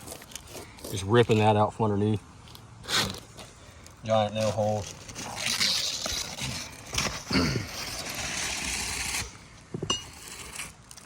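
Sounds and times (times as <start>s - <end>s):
shingles rustling and scraping: 0.0s - 1.7s, 2.4s - 11.0s.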